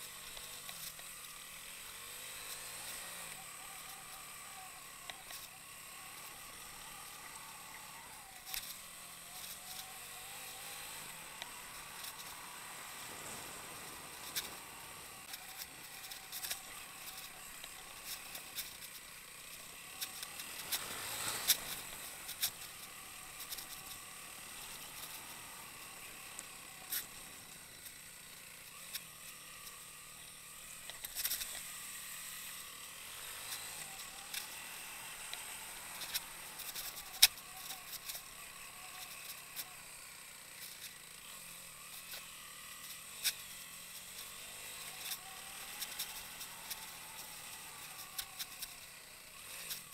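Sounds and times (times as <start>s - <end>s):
motorcycle engine at low speed: 0.0s - 49.9s.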